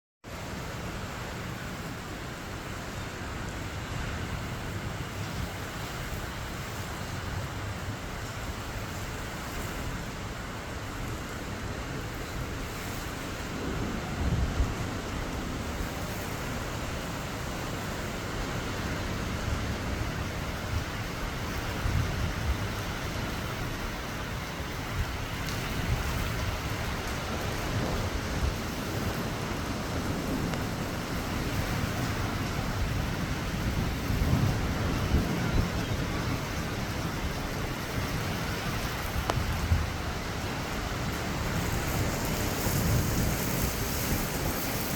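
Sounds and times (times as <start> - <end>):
heavy rain pouring: 0.2 - 44.9
wind gusting against microphone: 0.3 - 44.9.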